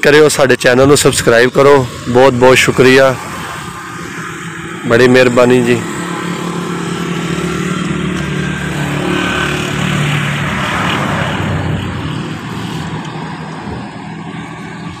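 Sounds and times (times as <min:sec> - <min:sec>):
diesel engine running: 0:00.8 - 0:15.0.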